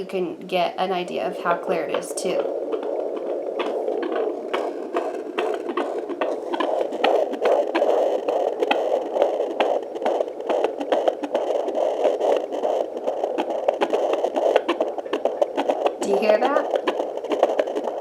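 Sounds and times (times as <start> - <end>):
fetal heartbeat through speaker: 0.0 - 18.0.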